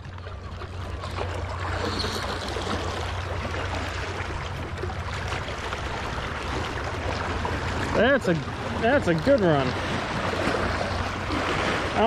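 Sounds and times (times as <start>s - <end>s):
seawater rushing and lapping: 0.0s - 12.0s.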